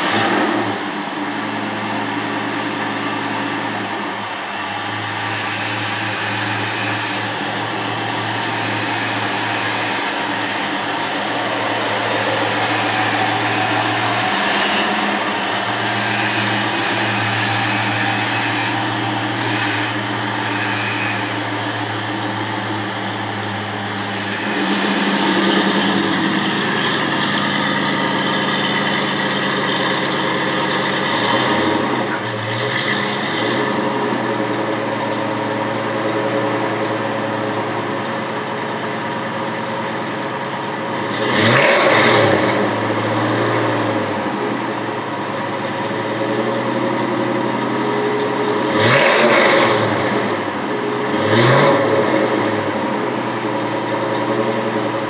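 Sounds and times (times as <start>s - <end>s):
car engine running and idling: 0.0s - 55.0s
engine throttle blips: 0.0s - 55.0s.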